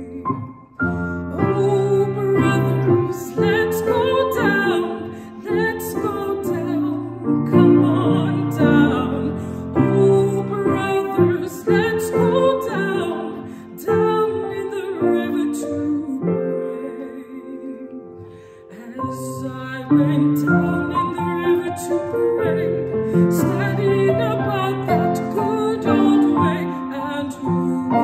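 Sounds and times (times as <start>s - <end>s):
slow gentle music: 0.0s - 28.0s.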